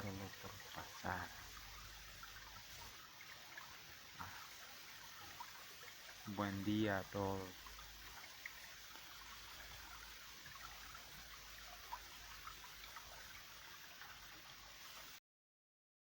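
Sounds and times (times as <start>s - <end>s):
creek water trickling: 0.0s - 15.2s
small water splashes: 0.0s - 15.2s.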